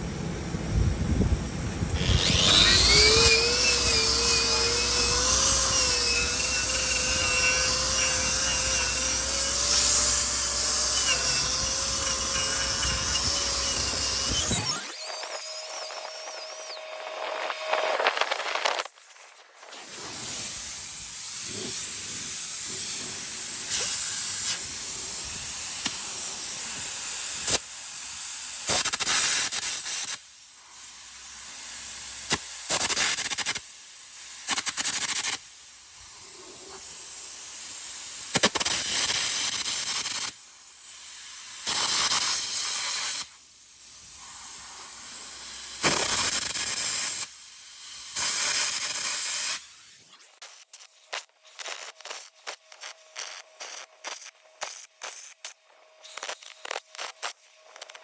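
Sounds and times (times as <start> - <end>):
high-pressure cleaning jet hissing: 2.0 - 18.9, 19.7 - 58.0.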